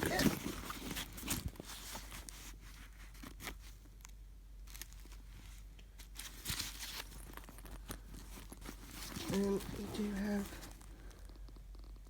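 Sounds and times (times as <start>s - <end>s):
handbag rustling and clicking: 0.0s - 4.0s, 4.6s - 12.0s.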